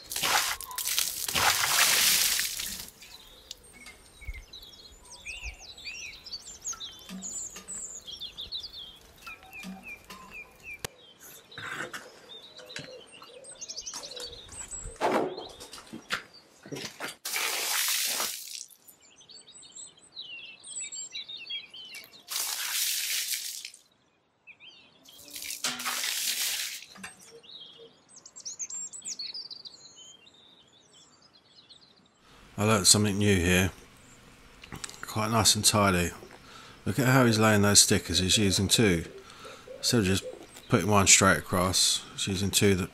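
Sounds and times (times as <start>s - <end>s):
small birds chirping: 0.0s - 16.9s, 18.4s - 25.6s, 26.8s - 42.9s.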